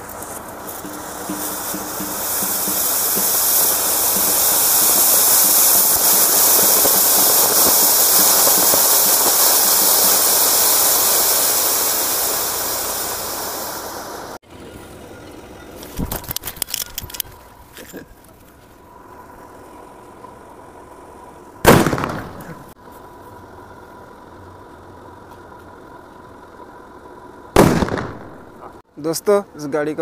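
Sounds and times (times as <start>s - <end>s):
firework fountain hissing: 0.0s - 18.0s, 18.8s - 28.9s.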